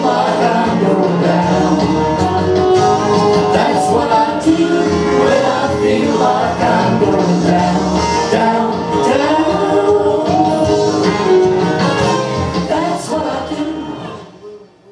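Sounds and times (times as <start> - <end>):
instrumental accompaniment: 0.0 - 13.6
man and woman singing gospel: 0.0 - 14.4.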